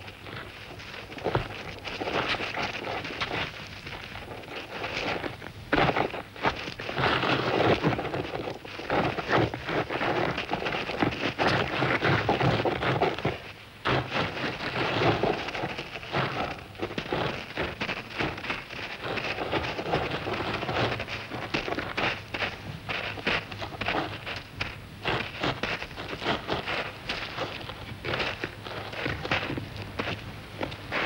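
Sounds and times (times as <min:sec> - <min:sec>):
dung ball rolling over dry sand: 0:00.0 - 0:31.0.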